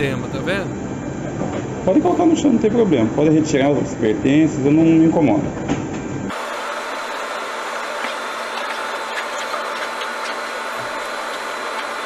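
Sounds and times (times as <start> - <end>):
air-handling machinery hum: 0.0 - 12.0.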